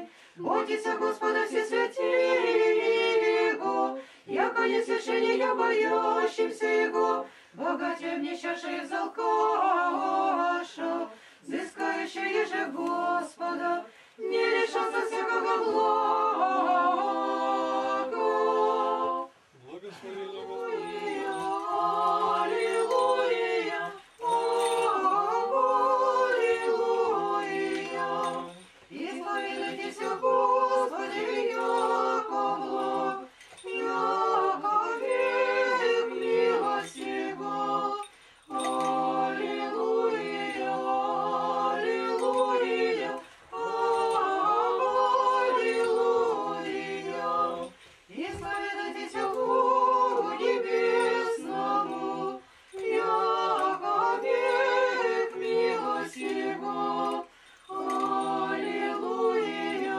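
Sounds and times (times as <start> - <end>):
choir chanting a cappella: 0.0 - 59.9.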